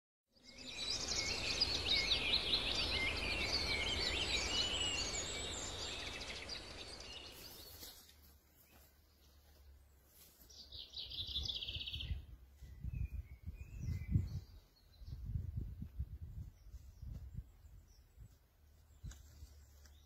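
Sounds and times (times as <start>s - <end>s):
songbirds chirping and trilling: 0.3s - 20.0s.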